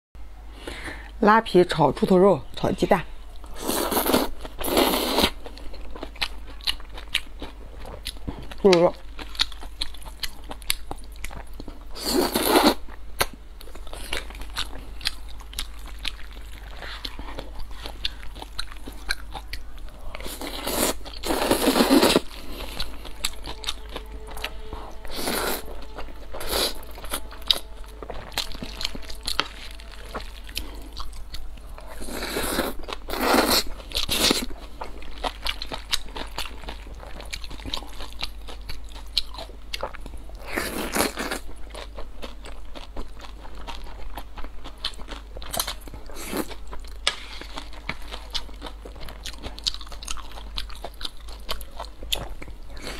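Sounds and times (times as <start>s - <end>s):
wet chewing: 3.4s - 52.9s.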